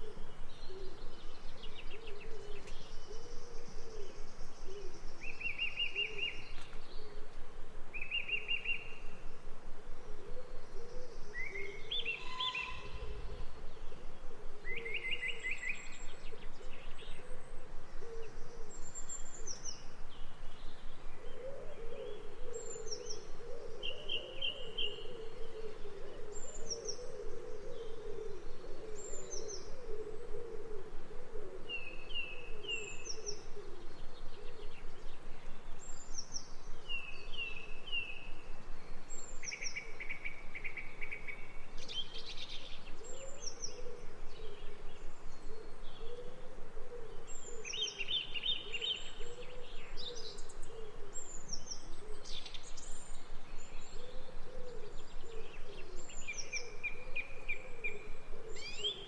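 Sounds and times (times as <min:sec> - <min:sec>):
low hoot-like bird calls: 0:00.0 - 0:20.3, 0:20.9 - 0:59.0.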